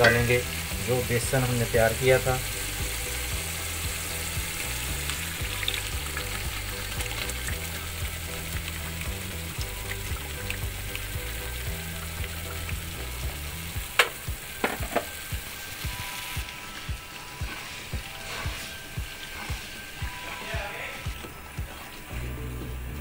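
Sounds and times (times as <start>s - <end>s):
batter pouring: 0.0s - 22.2s
spices sizzling in hot oil: 0.0s - 23.0s.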